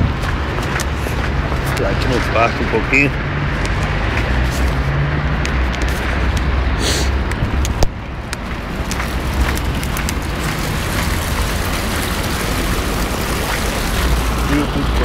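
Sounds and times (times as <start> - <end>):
outdoor traffic rumble: 0.0 - 15.0.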